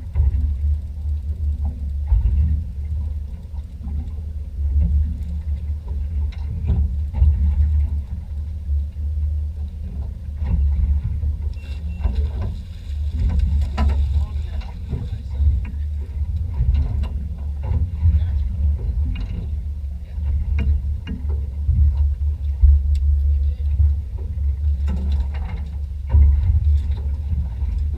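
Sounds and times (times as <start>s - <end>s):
boat engine rumble: 0.0s - 27.9s.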